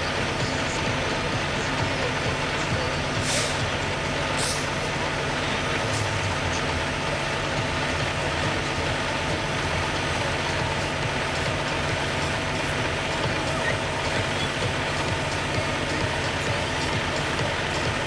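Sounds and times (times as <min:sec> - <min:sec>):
fire truck diesel engines running: 0:00.0 - 0:18.0.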